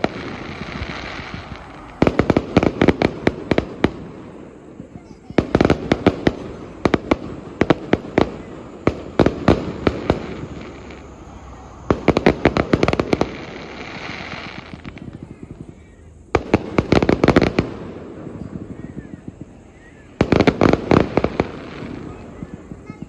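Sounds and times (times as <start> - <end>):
fireworks bangs: 0.0 - 23.0
soft fireworks hiss: 0.0 - 23.0.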